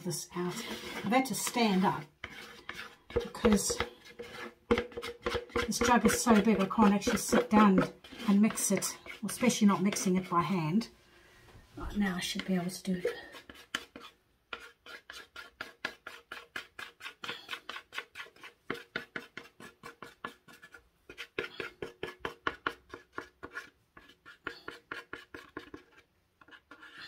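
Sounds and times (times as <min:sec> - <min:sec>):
stick scraping plastic jug: 0:00.0 - 0:10.8, 0:11.8 - 0:27.0.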